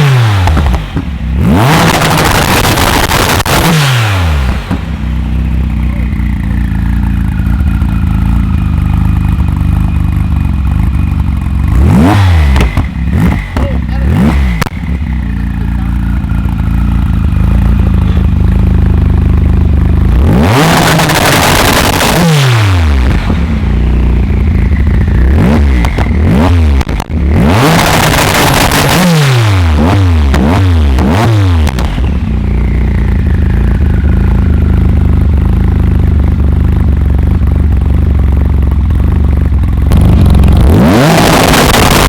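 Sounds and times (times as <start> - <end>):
car engine idling and revving: 0.0 - 42.0
exhaust crackles: 0.0 - 42.0.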